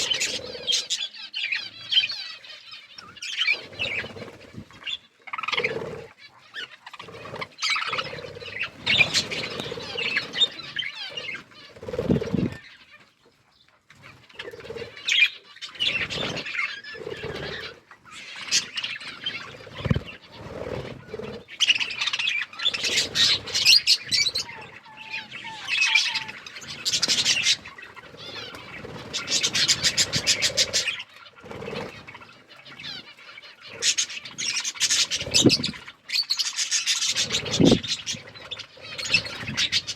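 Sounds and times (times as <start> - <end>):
budgerigars chirping and chattering: 0.0 - 39.9
wing flapping and rustling: 2.9 - 39.9.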